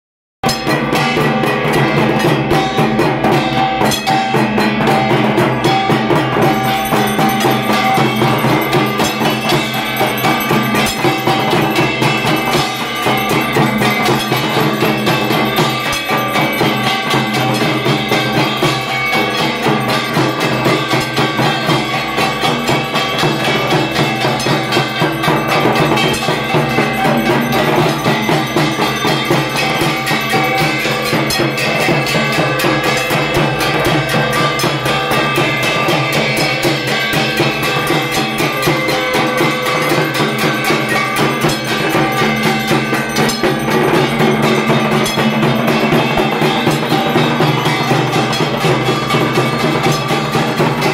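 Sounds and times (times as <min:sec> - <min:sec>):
drum beaten in fast rhythm: 0:00.4 - 0:50.9
small gongs clanging: 0:00.4 - 0:50.9.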